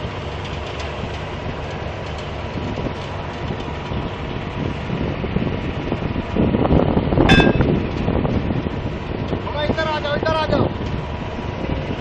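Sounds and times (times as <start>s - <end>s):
heavy machinery rumbling and rattling: 0.0s - 12.0s.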